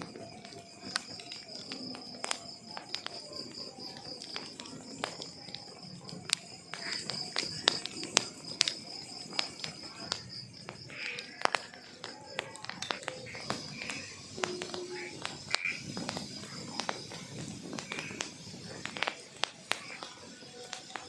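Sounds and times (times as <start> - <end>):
burning logs popping: 0.0 - 21.0
wood fire crackling: 0.0 - 21.0.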